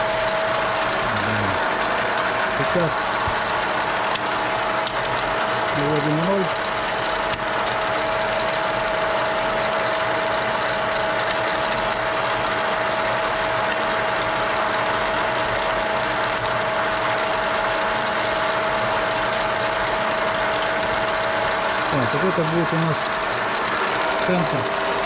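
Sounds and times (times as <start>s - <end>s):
milling machine whirring: 0.0s - 25.0s.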